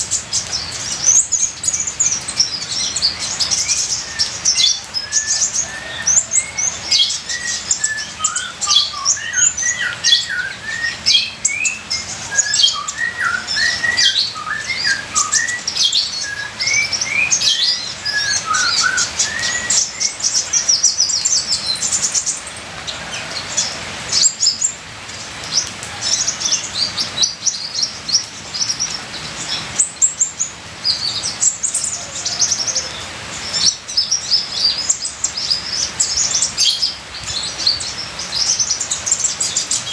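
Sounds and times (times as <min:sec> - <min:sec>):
bird singing twittering song: 0:00.0 - 0:39.9.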